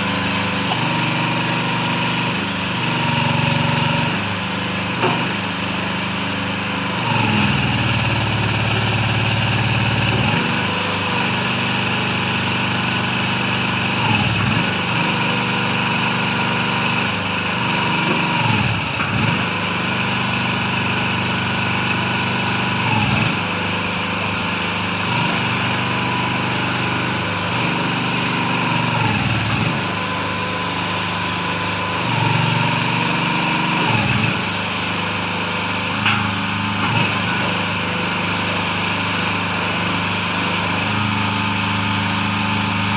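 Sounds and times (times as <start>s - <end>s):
concrete mixer engine running: 0.0s - 42.9s.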